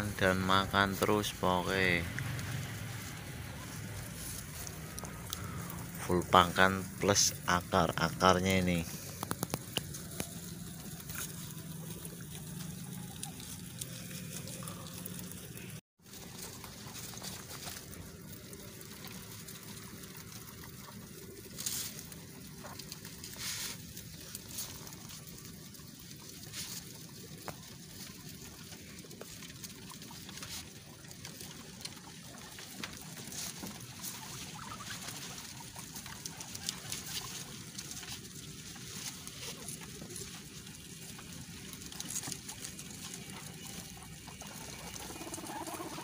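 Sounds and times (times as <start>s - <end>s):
guinea pigs rustling and chewing: 0.0s - 46.0s
small crackles of stems: 0.0s - 46.0s.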